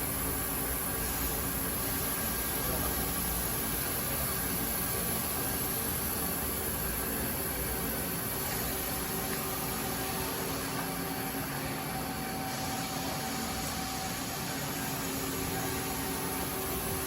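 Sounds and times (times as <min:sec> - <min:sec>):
lathe machine hum and hiss: 0:00.0 - 0:17.0.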